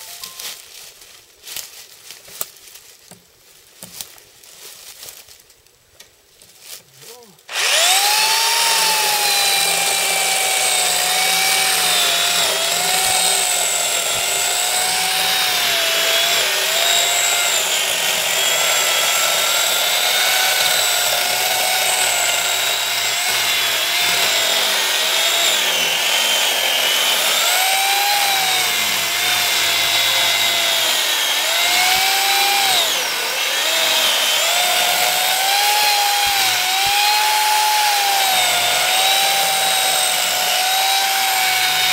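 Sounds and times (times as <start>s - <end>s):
electric chainsaw cutting logs: 7.5s - 41.9s.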